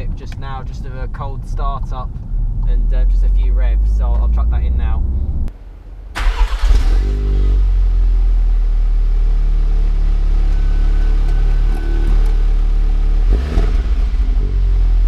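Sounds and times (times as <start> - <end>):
car engine cold-starting and idling: 0.0 - 15.0.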